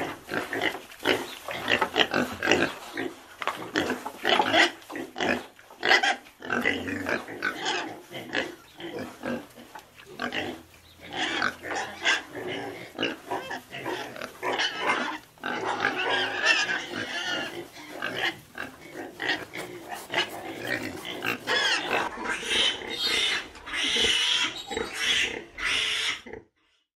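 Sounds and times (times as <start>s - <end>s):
pigs grunting and squealing: 0.0s - 26.8s.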